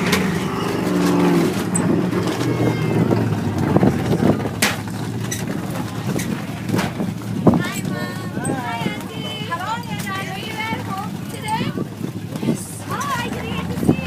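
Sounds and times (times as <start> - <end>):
stock car engines running: 0.0 - 14.0.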